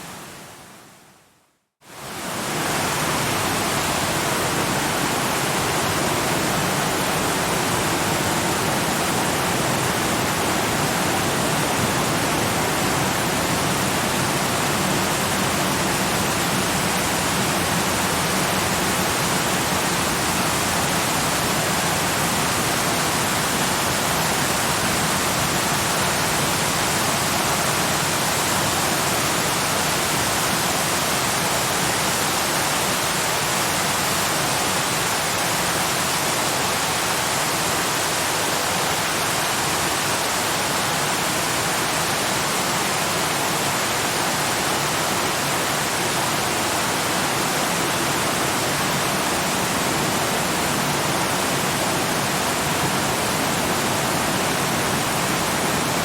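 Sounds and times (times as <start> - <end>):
waterfall rushing: 1.9 - 56.0.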